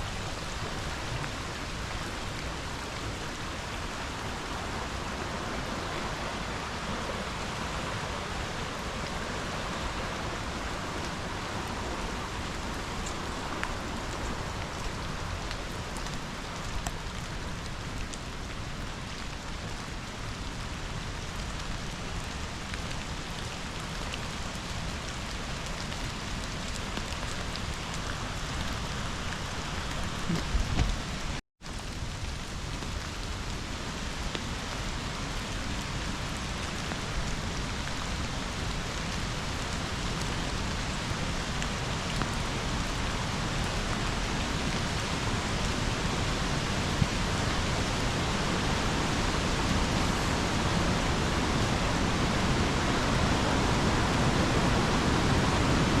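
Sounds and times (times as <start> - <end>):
rushing river water: 0.0 - 56.0
steady rain: 0.0 - 56.0.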